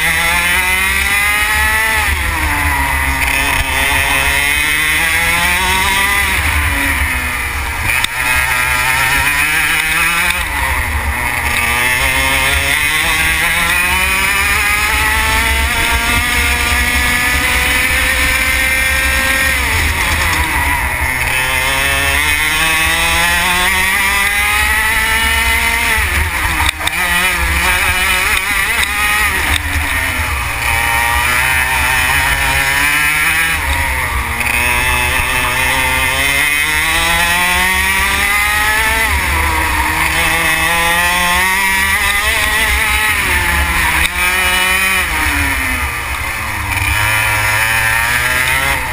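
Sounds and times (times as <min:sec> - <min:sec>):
racing kart engine revving: 0:00.0 - 0:48.9.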